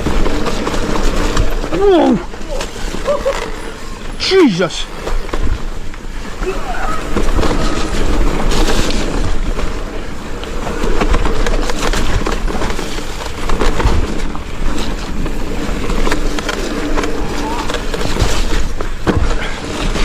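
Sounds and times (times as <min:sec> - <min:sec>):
bike rattling and knocking: 0:00.0 - 0:20.0.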